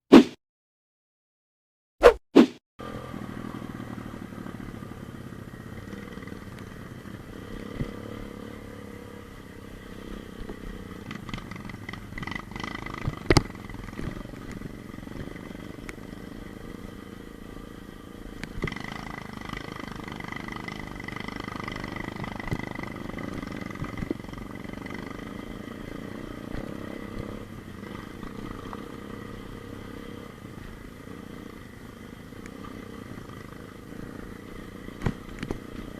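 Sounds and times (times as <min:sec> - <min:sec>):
motorbike engine revving: 0:02.8 - 0:35.9.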